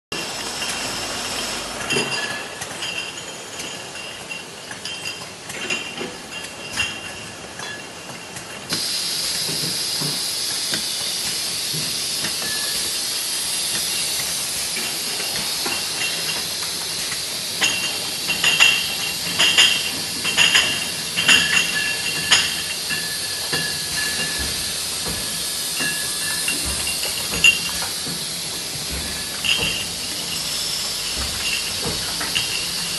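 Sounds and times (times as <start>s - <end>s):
bottling machine hissing: 0.1s - 32.9s
glass bottles clinking: 0.2s - 8.4s, 11.2s - 32.9s.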